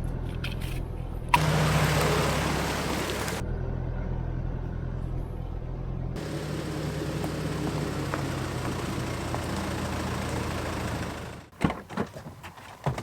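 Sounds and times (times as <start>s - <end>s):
vehicle engine idling: 0.0s - 11.5s.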